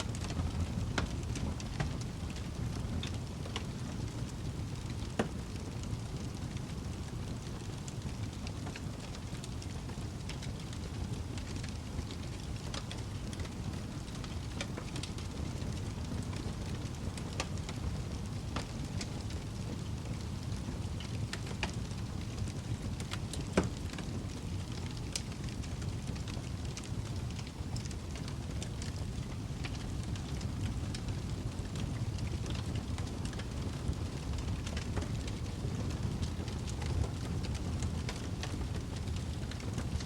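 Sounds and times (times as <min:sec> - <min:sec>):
fire crackles and pops: 0:00.0 - 0:40.0
low rumble of flames: 0:00.0 - 0:40.0.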